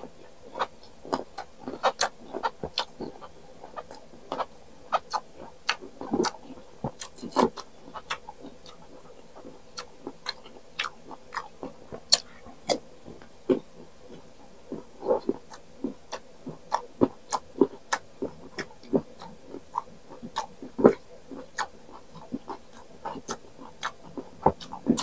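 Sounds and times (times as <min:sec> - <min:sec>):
chewing crisp mango slices: 0:00.0 - 0:25.0.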